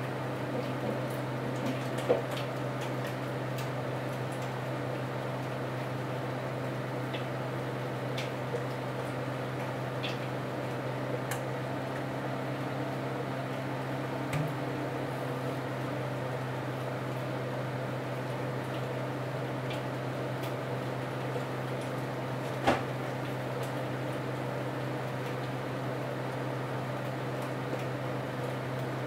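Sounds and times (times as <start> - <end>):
kitchen appliance humming: 0.0 - 29.0.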